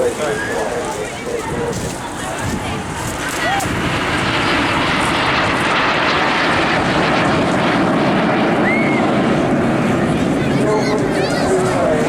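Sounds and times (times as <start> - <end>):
jet aircraft in flight: 0.0 - 12.0.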